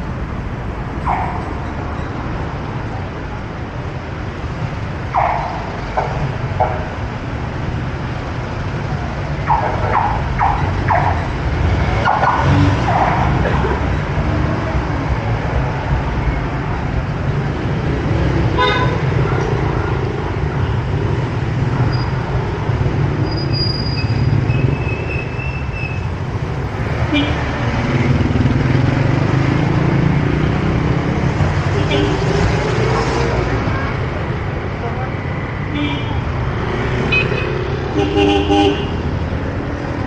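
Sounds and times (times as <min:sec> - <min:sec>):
vehicle engines in street traffic: 0:00.0 - 0:40.0.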